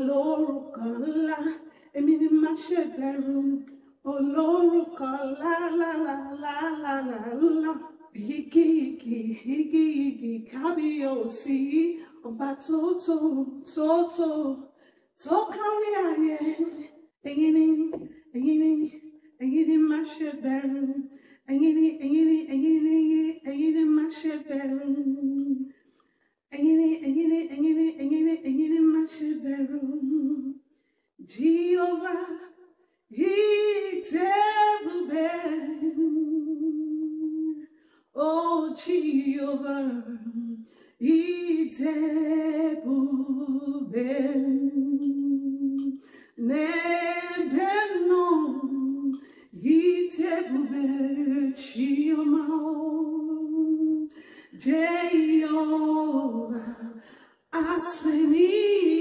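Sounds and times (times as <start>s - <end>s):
woman singing unaccompanied: 0.0s - 25.7s, 26.5s - 30.6s, 31.2s - 59.0s.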